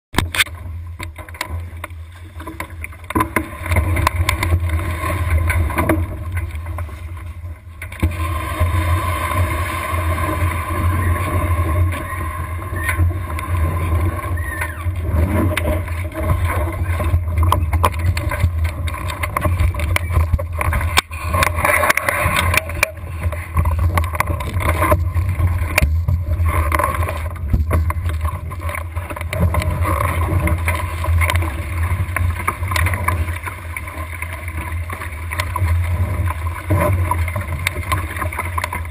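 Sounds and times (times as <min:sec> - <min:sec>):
water rushing along hull: 0:00.2 - 0:38.9.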